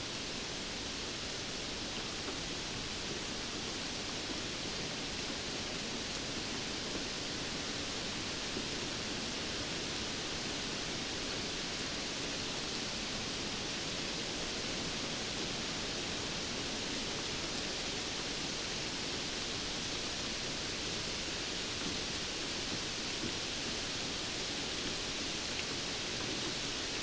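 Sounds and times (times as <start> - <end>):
steady rainfall hiss: 0.0 - 27.0.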